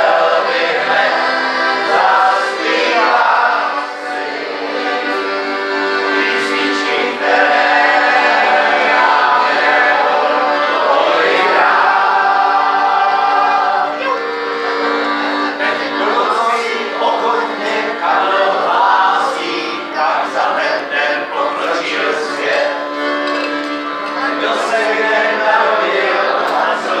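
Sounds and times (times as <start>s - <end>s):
group of people singing: 0.0s - 14.5s, 15.4s - 23.2s, 24.2s - 27.0s
accordion chords: 0.0s - 27.0s.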